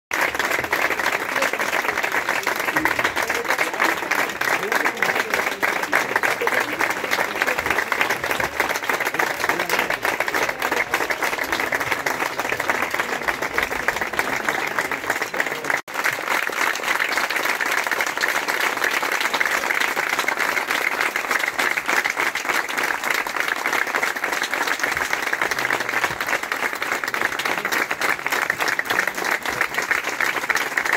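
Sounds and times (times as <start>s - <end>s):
crowd applauding: 0.1s - 30.9s.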